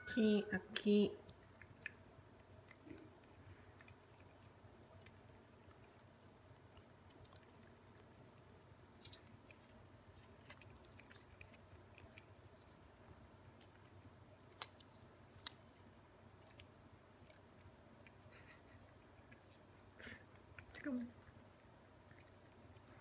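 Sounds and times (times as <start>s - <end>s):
cats licking wet clicks: 1.2s - 23.0s.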